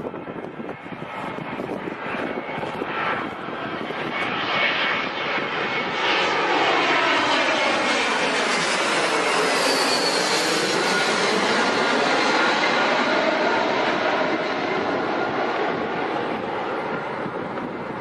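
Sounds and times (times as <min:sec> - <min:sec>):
jet airliner engines passing: 0:00.0 - 0:18.0.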